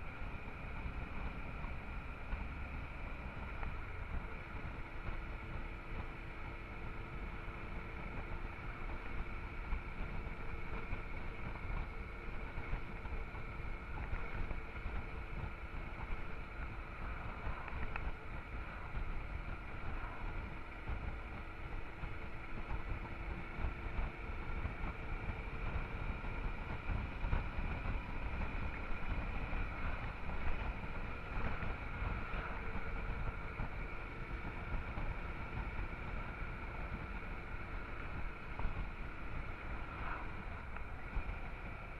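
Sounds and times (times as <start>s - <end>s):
motorcycle engine running: 0.0s - 41.9s
wind rush on microphone: 7.5s - 41.9s.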